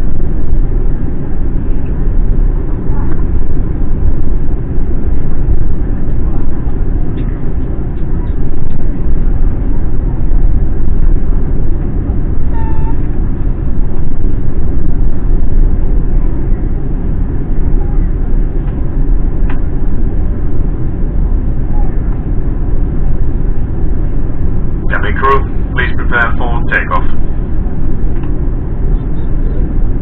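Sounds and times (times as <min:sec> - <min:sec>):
airliner cabin roar: 0:00.0 - 0:30.0.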